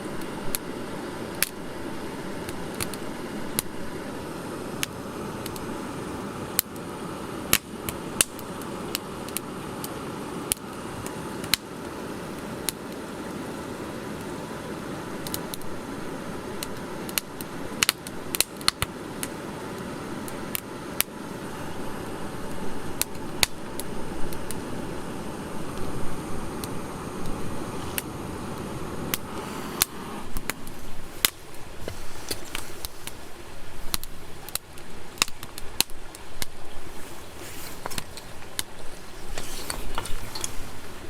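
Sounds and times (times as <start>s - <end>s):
rush of flame: 0.0s - 41.0s
wood crackling and popping: 0.1s - 5.7s, 7.5s - 13.4s, 15.2s - 15.8s, 16.4s - 19.4s, 20.2s - 41.0s.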